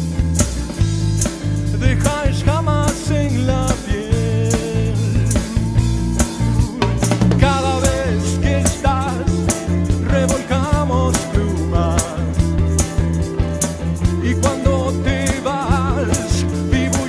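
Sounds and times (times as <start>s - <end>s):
drum kit beat: 0.0s - 17.0s
electric bass: 0.0s - 17.0s
electric guitars: 0.0s - 17.0s
man singing: 1.7s - 13.0s, 14.0s - 17.0s.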